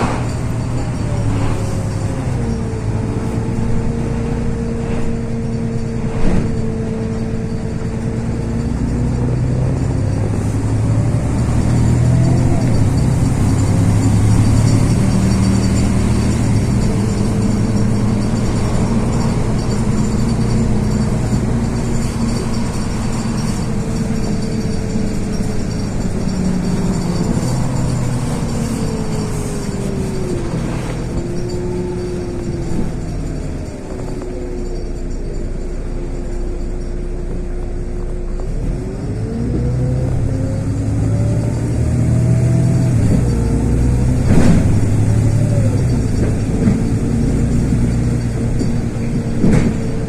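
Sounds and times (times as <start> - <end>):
bus engine drone: 0.0 - 50.0
drivetrain whine: 0.0 - 50.0.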